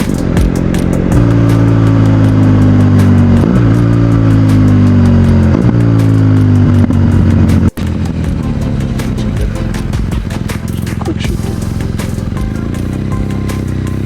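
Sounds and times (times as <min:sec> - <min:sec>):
motorcycle engine under way: 0:00.0 - 0:14.0.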